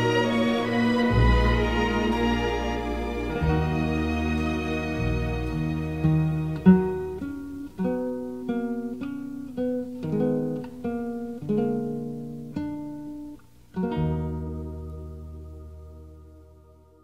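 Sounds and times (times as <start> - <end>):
acoustic guitar picking slow melody: 0.0 - 17.0.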